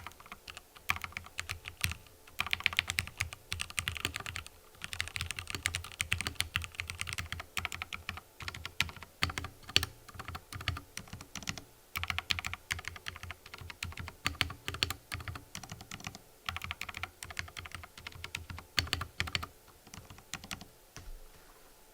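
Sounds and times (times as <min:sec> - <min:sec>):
mechanical keyboard typing: 0:00.0 - 0:20.7.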